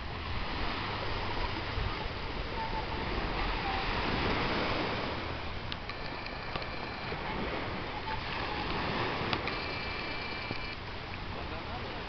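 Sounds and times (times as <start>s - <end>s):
waves washing onto sand: 0.0s - 12.0s
wind on microphone: 0.0s - 12.0s.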